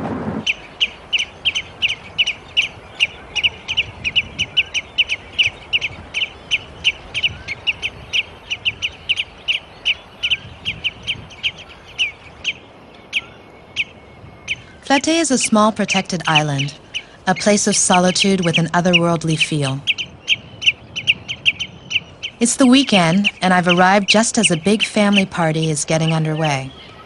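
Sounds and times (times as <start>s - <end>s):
bird chirping: 0.4s - 27.0s.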